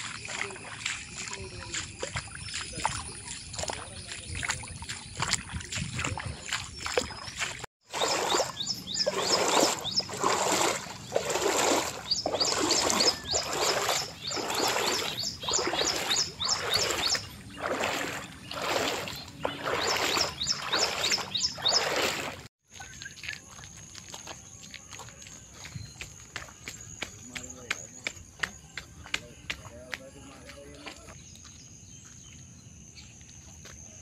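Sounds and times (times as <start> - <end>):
footsteps splashing in shallow water: 0.0 - 32.4.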